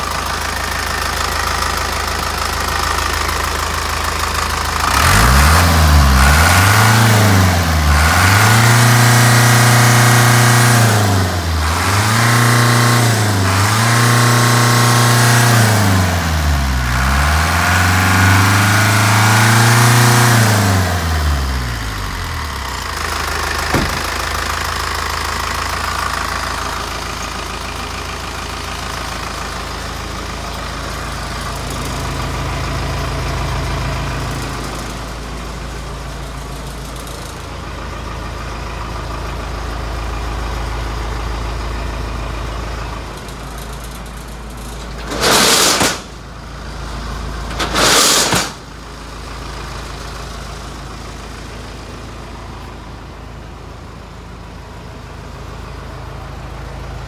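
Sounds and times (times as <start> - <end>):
diesel engine revving and idling: 0.0 - 57.0.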